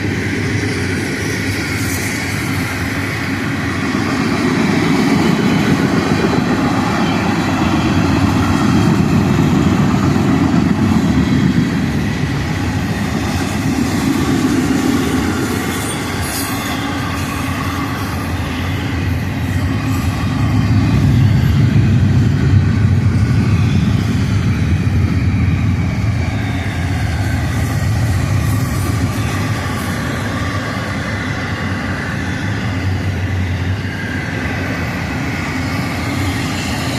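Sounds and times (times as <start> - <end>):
freight train wheels rumbling: 0.0 - 36.9.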